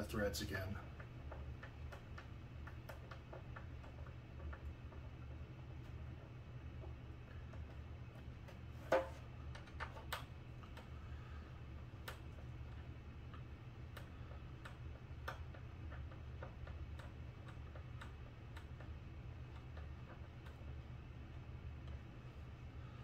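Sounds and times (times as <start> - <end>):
steady low hum: 0.0 - 23.0
light clicks and taps: 0.1 - 22.9.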